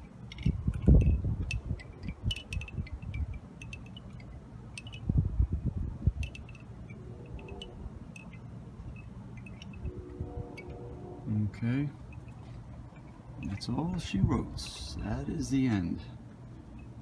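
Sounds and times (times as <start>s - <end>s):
bamboo wind chimes clacking: 0.0s - 11.0s, 11.6s - 14.8s, 16.6s - 17.0s
wind rumbling on microphone: 0.0s - 11.7s, 12.8s - 15.4s.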